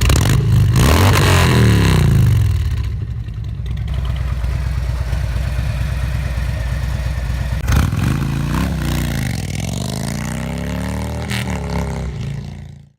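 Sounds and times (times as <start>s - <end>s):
motorcycle engine idling and revving: 0.0s - 12.9s.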